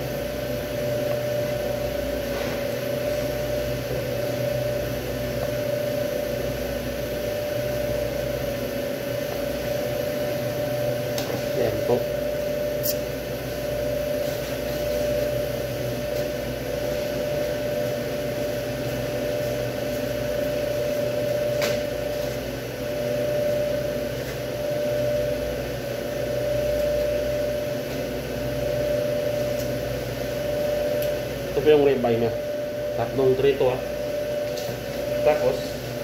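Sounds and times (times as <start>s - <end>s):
mechanical hum of machinery: 0.0s - 36.0s.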